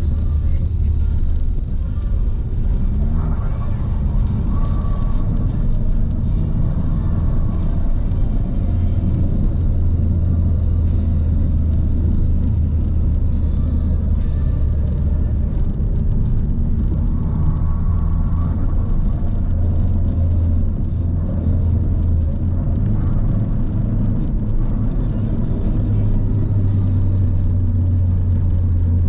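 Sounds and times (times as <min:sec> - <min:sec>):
car engine and tyre drone: 0:00.0 - 0:29.0.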